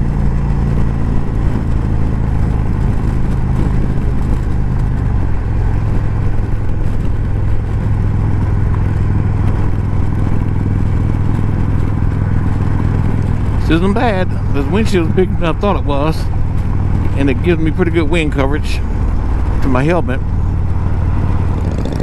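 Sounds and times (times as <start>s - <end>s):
motorcycle engine at speed: 0.0s - 22.0s
wind rush: 0.0s - 22.0s.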